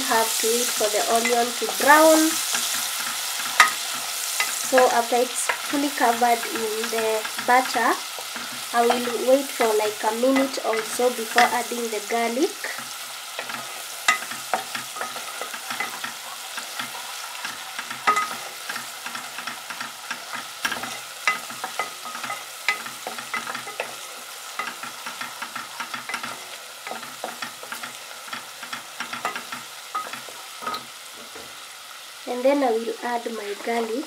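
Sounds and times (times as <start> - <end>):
onion sizzling in butter: 0.0 - 34.0.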